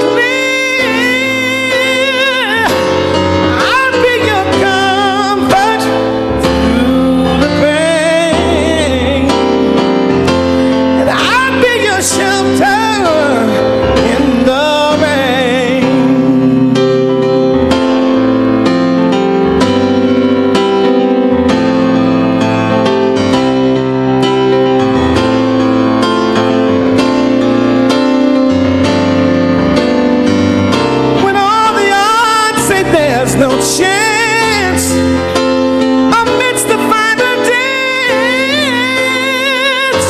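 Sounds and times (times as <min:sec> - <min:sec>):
high lead melody with vibrato: 0:00.0 - 0:40.0
sustained piano chords: 0:00.0 - 0:40.0.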